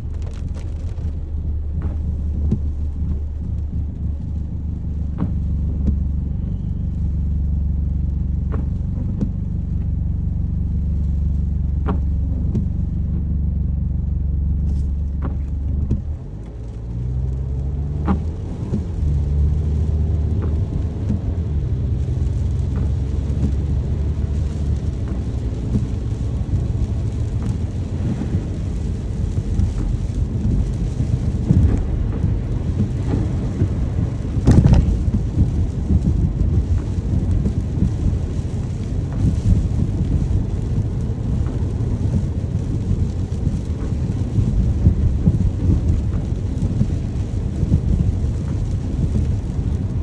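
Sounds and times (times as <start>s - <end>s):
low rumble of thunder: 0.0s - 50.0s
rain: 0.0s - 50.0s.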